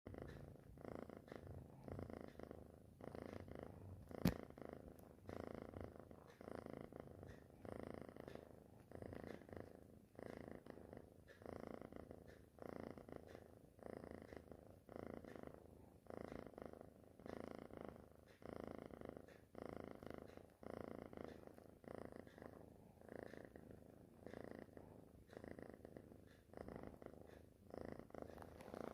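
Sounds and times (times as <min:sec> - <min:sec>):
kitten snoring: 0:00.1 - 0:28.9.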